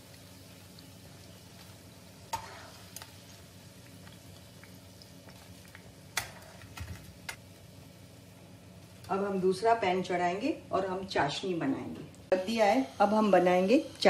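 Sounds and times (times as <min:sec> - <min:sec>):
bread sizzling in oil: 0:00.0 - 0:10.2, 0:12.3 - 0:14.0.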